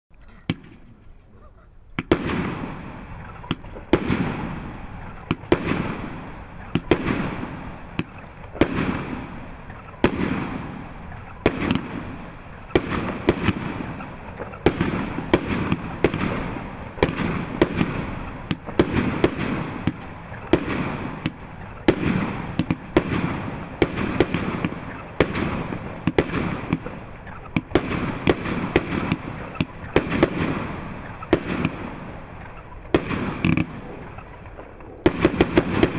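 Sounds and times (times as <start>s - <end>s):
fireworks shots firing: 0.4s - 1.0s, 1.9s - 35.9s.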